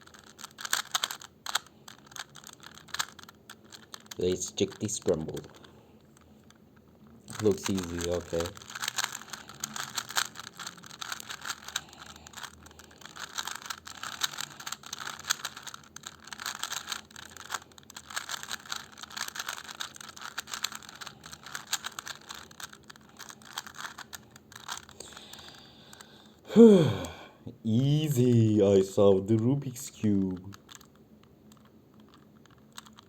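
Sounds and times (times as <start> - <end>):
puzzle cube plastic clicks: 0.0 - 26.4, 27.8 - 33.0.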